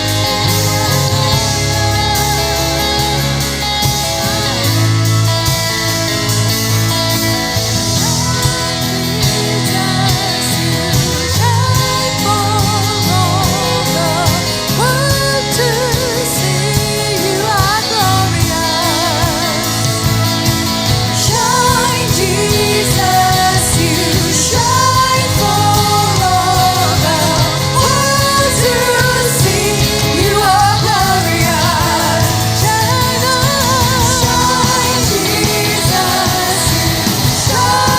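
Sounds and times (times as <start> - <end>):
band playing worship song: 0.0 - 37.9
lead singer singing with vibrato: 7.1 - 37.9.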